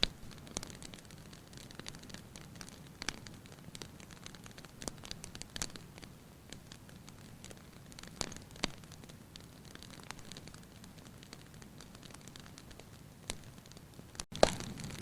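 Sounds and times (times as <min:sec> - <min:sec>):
low rumble of flames: 0:00.0 - 0:15.0
sharp snaps from fire: 0:00.0 - 0:15.0
small pops from fire: 0:00.0 - 0:15.0.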